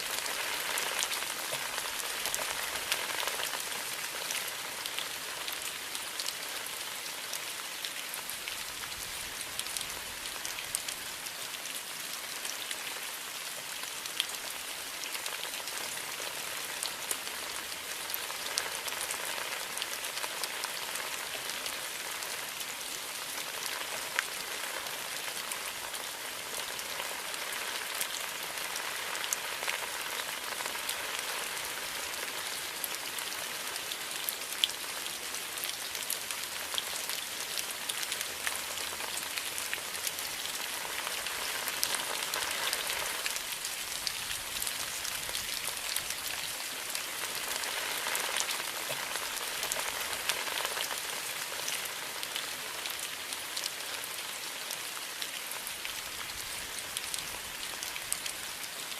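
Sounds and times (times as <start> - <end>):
rain on leaves: 0.0 - 58.9.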